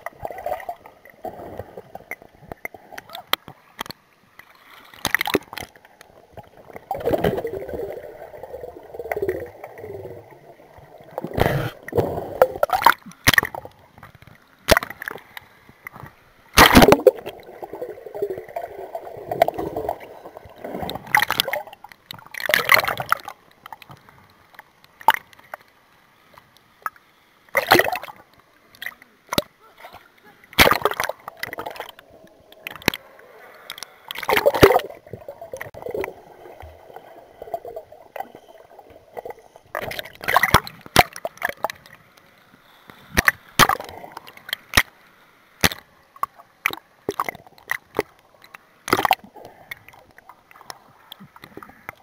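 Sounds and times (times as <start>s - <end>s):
underwater gurgling and churning water: 0.0s - 25.6s, 26.8s - 42.2s, 43.0s - 45.0s, 45.6s - 52.0s.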